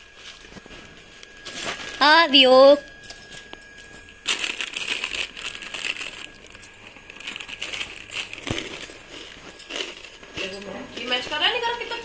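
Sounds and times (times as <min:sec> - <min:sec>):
crinkling and rustling: 0:00.0 - 0:02.1, 0:03.2 - 0:12.0.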